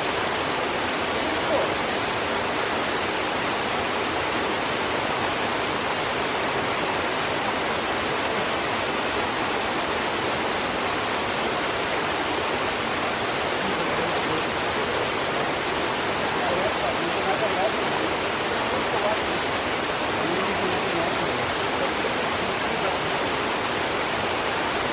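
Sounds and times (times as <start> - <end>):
rushing waterfall: 0.0 - 24.9.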